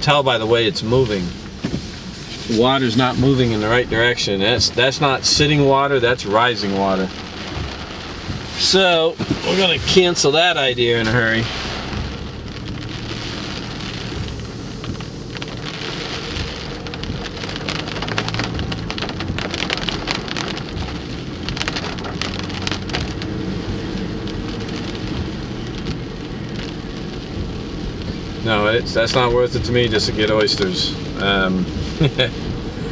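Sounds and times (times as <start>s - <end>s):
car engine humming: 0.0s - 32.9s
rain hitting a car: 0.0s - 32.9s.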